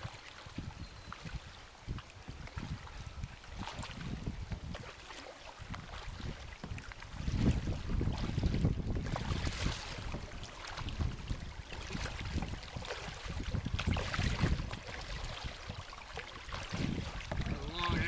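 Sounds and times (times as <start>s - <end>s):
water splashing around kayak: 0.0s - 18.0s
wind rumbling on microphone: 0.0s - 18.0s.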